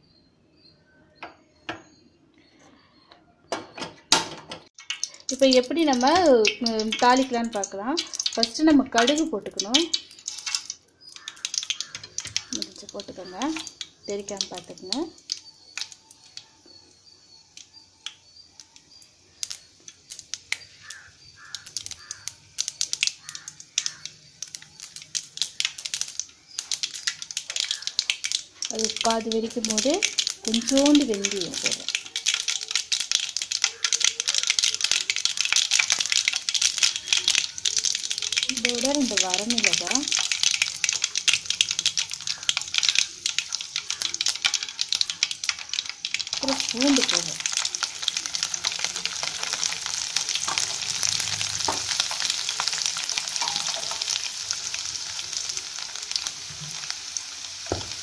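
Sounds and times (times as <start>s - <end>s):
seeds popping in hot oil: 4.7s - 58.0s
oil sizzling hiss: 4.8s - 58.0s.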